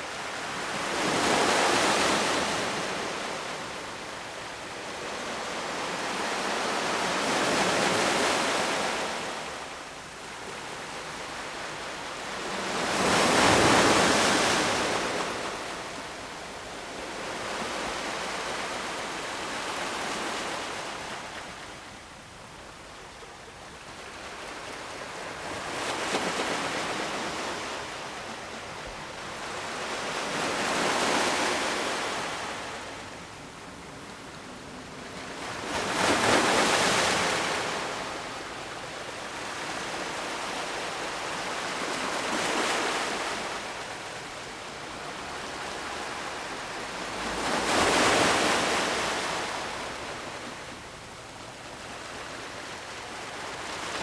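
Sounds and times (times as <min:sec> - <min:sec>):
ocean waves breaking on shore: 0:00.0 - 0:21.8, 0:23.7 - 0:54.0.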